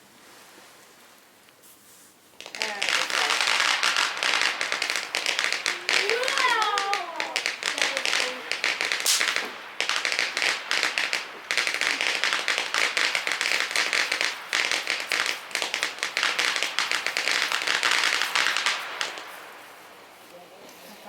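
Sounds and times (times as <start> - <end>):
firecrackers popping: 1.9 - 21.0.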